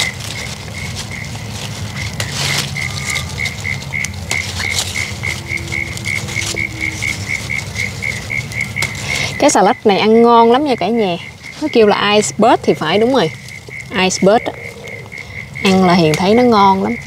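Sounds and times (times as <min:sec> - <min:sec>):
cricket chirping: 0:00.0 - 0:17.0
lettuce leaves rustling and snapping: 0:00.0 - 0:17.0.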